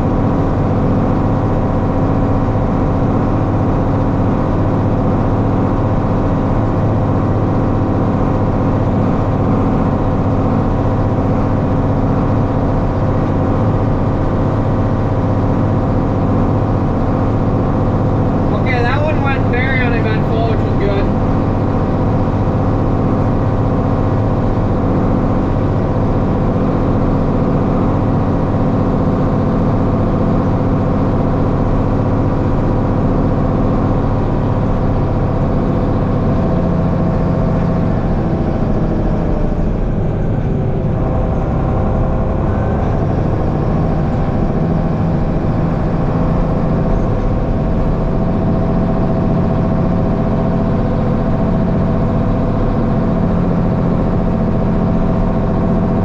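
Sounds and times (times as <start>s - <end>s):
heavy machinery engine drone: 0.0s - 56.0s.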